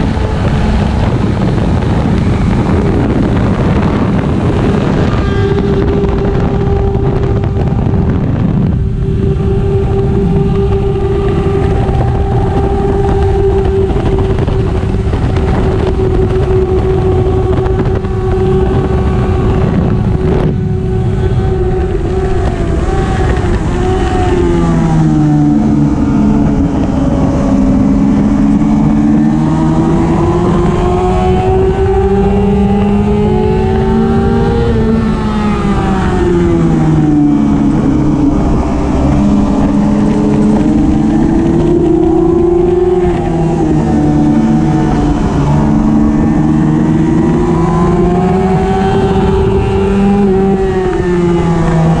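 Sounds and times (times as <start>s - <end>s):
motorcycle engine at high revs: 0.0s - 52.0s
wind noise rushing: 0.0s - 52.0s.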